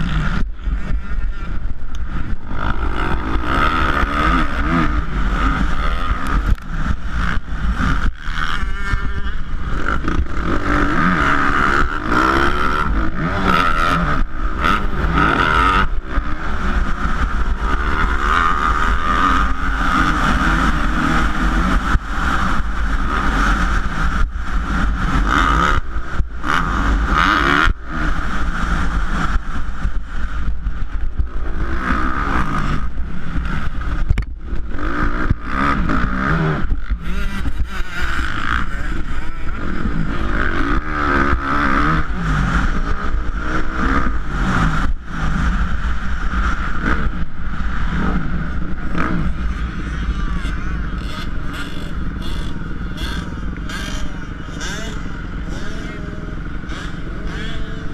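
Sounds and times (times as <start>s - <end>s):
motocross bike engine revving: 0.0s - 57.9s
wind rumble on microphone: 0.0s - 57.9s.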